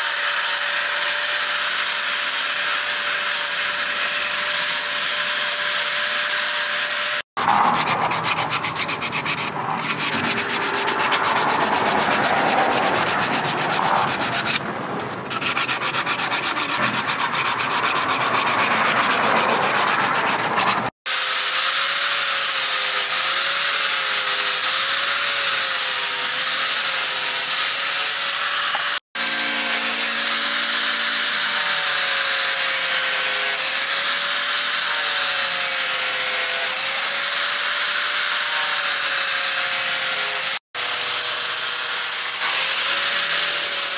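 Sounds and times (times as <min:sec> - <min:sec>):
angle grinder sanding metal: 0:00.0 - 0:14.6, 0:15.3 - 0:43.9
sandpaper rasping on wood: 0:00.0 - 0:14.6, 0:15.3 - 0:43.9.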